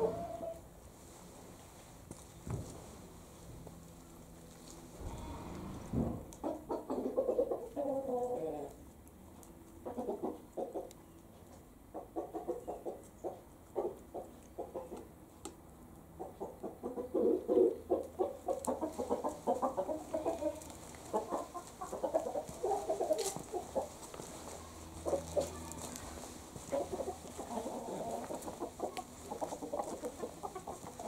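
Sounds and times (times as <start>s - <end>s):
chickens clucking: 0.0s - 0.6s, 6.0s - 31.0s.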